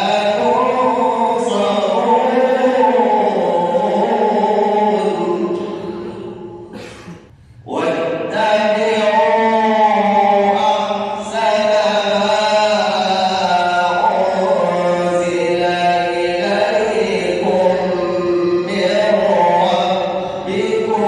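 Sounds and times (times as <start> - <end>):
man chanting melodic recitation: 0.0 - 6.8, 7.6 - 21.0.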